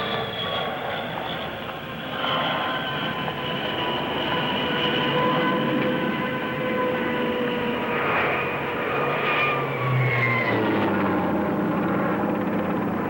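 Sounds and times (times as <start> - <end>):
turboprop engines whining: 0.0 - 13.0.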